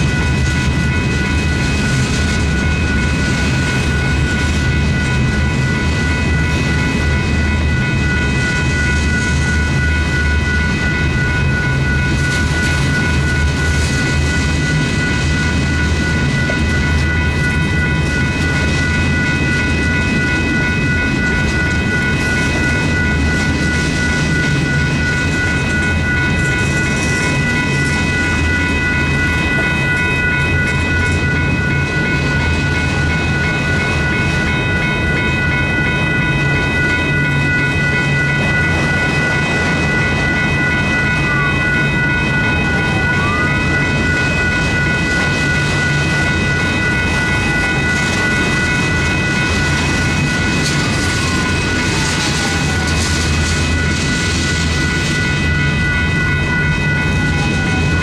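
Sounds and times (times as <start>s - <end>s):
crossing signal bell ringing: 0.0s - 58.0s
freight train rumbling on rails: 0.0s - 58.0s.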